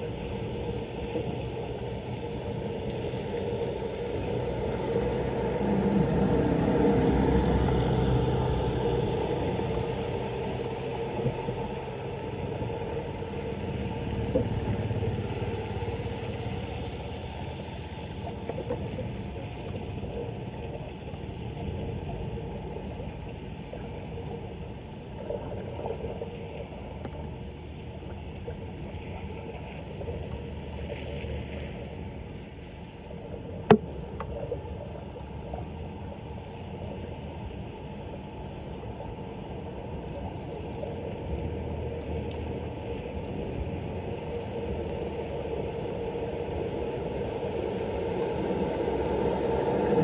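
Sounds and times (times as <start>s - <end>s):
water rushing down storm drain: 0.0s - 50.0s.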